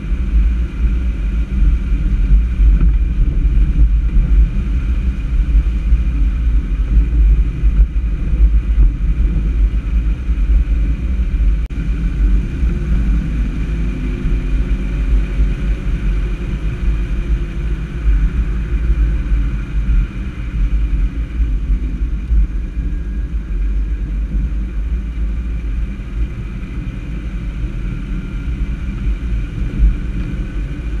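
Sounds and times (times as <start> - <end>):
moving vehicle rumble: 0.0 - 31.0.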